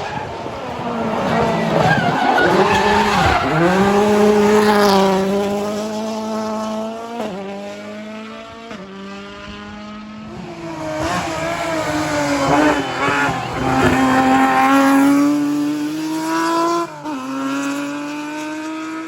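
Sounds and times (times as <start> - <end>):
car engine approaching: 0.0 - 19.0
rally car engine passing: 0.0 - 19.0.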